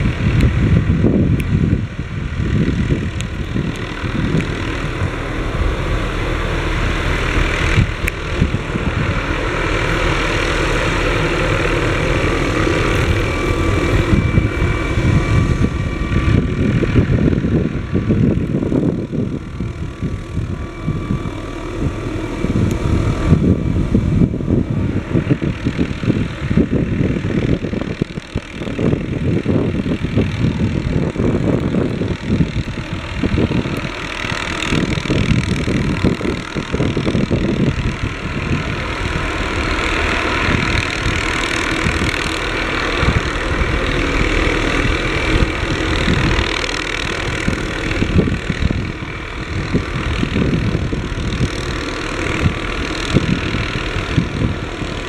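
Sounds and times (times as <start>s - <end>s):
helicopter hovering overhead: 0.0s - 55.0s
rushing rotor wash: 0.0s - 55.0s.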